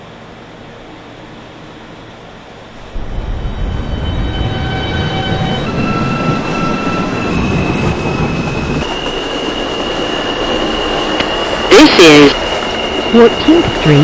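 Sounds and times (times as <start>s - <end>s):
subway train rumbling on track: 0.0s - 14.0s.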